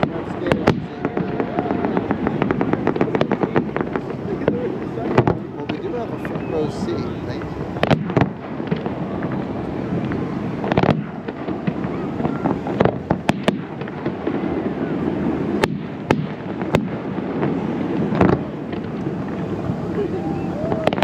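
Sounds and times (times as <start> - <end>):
crowd murmur: 0.0 - 21.0
fireworks bangs: 0.0 - 21.0.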